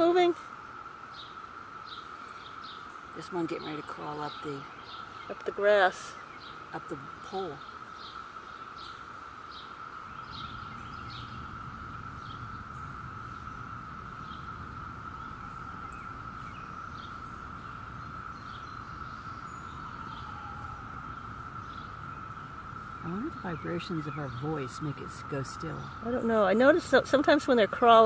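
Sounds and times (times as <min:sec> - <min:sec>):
cicadas droning: 0:00.0 - 0:28.0
bird chirps: 0:01.1 - 0:28.0.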